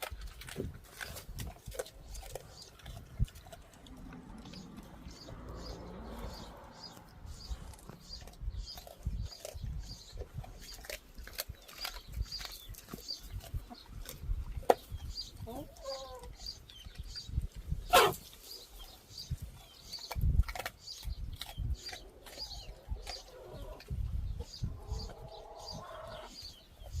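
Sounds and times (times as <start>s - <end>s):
animal chewing watermelon: 0.0s - 27.0s.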